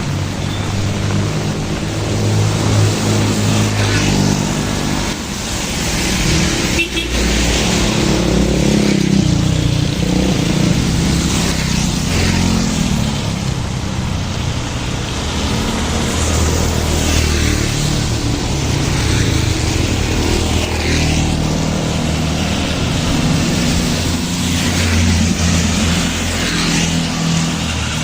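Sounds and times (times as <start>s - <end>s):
heavy rain: 0.0s - 28.0s
vehicle engines passing: 0.0s - 28.0s.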